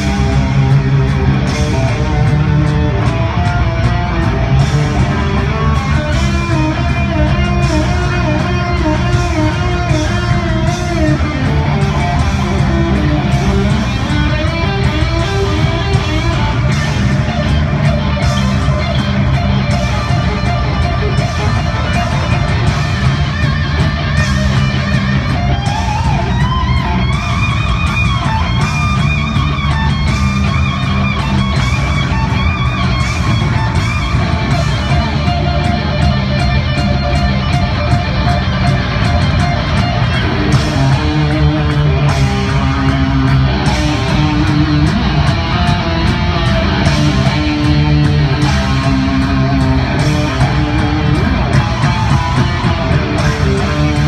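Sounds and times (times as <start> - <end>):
heavy metal electric guitar solo: 0.0 - 54.0.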